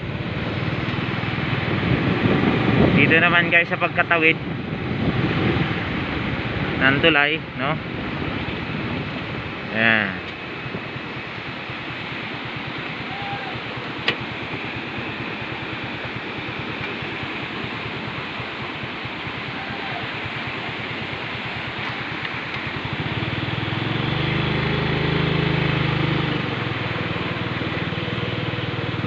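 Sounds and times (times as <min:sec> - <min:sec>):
wind noise on microphone: 0:00.0 - 0:27.3
deep engine hum: 0:00.0 - 0:29.0
motorcycle engine running: 0:00.0 - 0:29.0.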